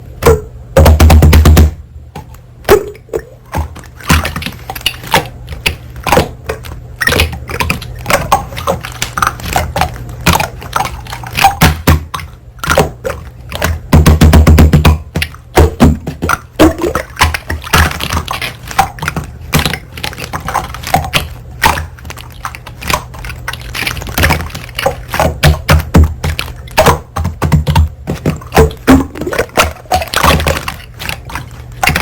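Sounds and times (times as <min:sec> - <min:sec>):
slime squishing: 0:02.2 - 0:14.2, 0:14.8 - 0:32.0
slime clicking and popping: 0:02.2 - 0:32.0.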